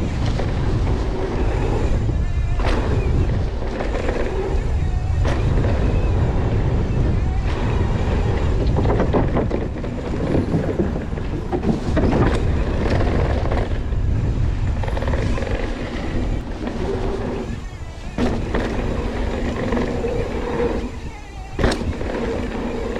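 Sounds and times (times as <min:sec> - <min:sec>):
bike rattling over bumps: 0:00.0 - 0:22.9
bike tyres rumbling on dirt: 0:00.0 - 0:22.9
wind buffeting microphone: 0:00.0 - 0:22.9.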